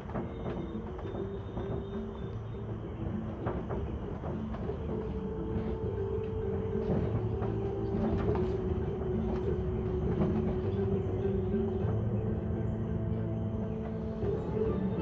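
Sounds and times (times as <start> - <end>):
tram motor hum and whine: 0.0 - 15.0.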